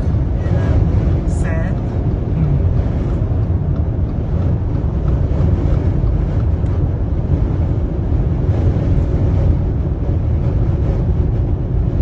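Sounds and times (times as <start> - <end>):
road noise: 0.0 - 12.0
strong wind buffeting car: 0.0 - 12.0.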